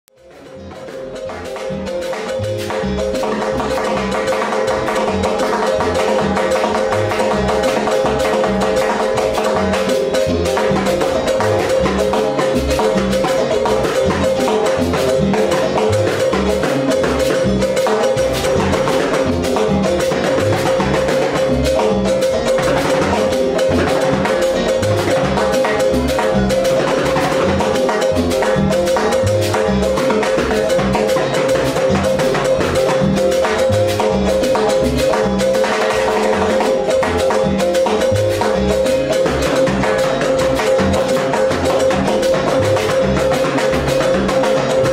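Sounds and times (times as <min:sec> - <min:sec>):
timbales played with sticks: 0:00.1 - 0:44.9.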